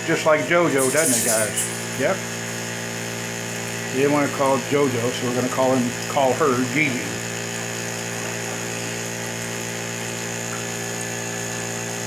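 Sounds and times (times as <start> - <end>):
small water pump humming: 0.0 - 12.0.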